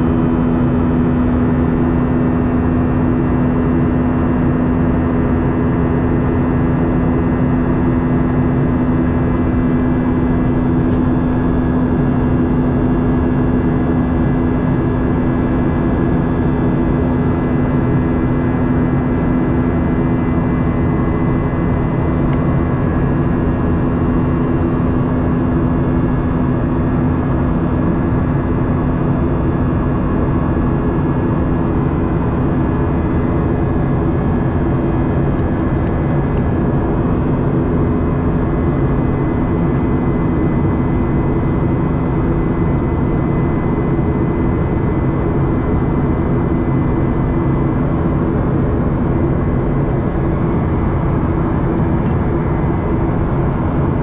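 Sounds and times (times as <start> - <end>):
airplane cabin drone: 0.0 - 54.0
faint high engine whine: 0.0 - 54.0.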